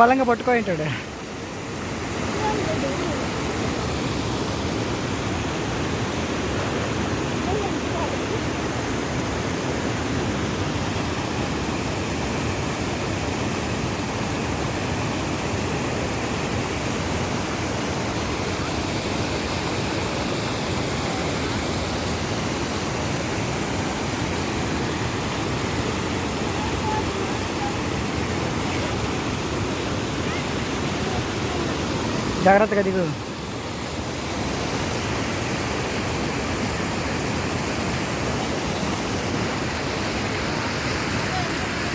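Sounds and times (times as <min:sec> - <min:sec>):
fast-flowing water rushing: 0:00.0 - 0:41.9.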